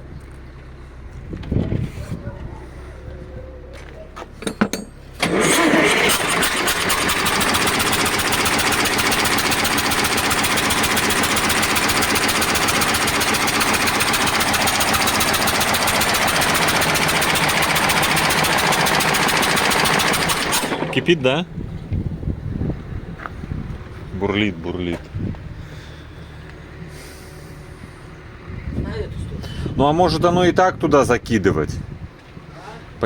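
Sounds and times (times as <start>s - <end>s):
diesel engine cranking and running: 4.3s - 31.1s.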